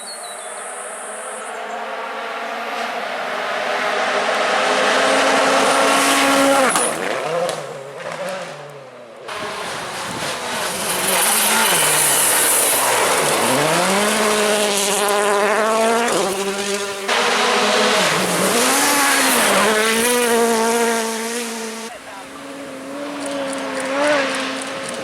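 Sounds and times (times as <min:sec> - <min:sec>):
rally car engine at full throttle: 0:01.4 - 0:25.0
car engine holding high revs: 0:02.2 - 0:25.0.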